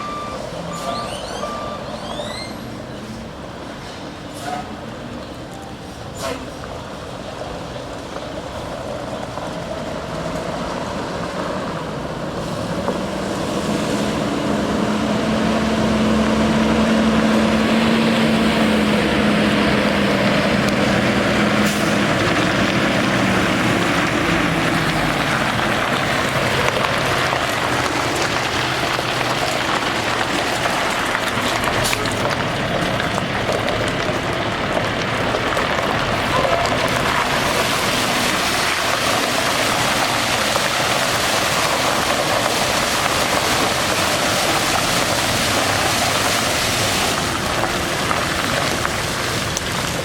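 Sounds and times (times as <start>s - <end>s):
diesel truck engine running: 0.0s - 50.0s.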